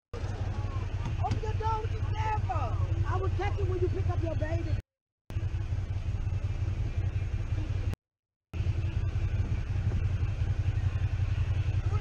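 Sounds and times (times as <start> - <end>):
motorcycle engine idling: 0.2 - 8.0, 8.6 - 12.0.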